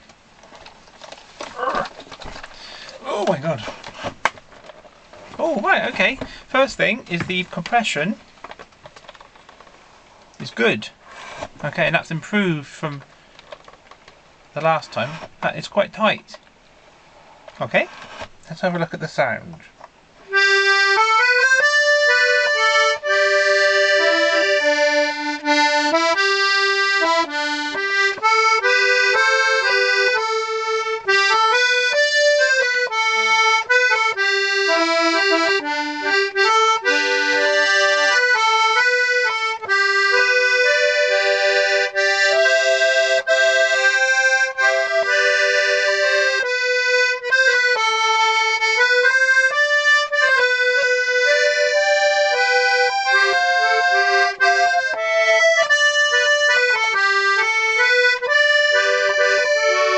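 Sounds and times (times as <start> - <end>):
accordion melody: 1.4 - 9.6, 14.6 - 16.2, 17.5 - 18.4, 20.2 - 59.9.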